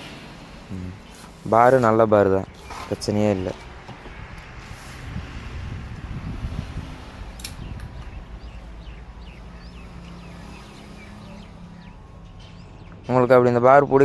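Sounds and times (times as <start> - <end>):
low rumbling handling noise: 0.0 - 14.0
small birds chirping: 0.0 - 14.0.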